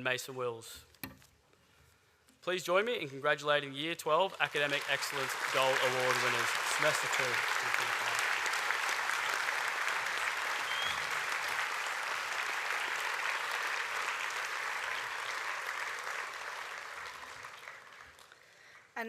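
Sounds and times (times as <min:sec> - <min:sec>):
audience clapping: 0:02.8 - 0:19.0.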